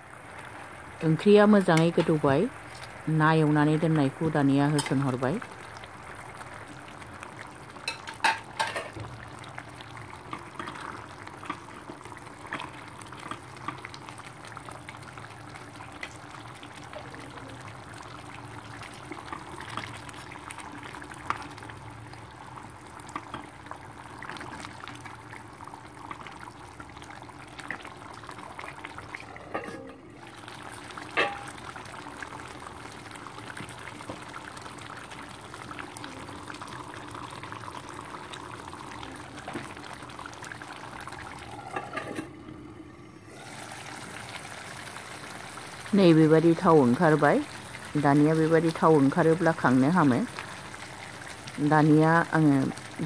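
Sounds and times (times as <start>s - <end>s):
curry bubbling in a pan: 0.0s - 53.0s.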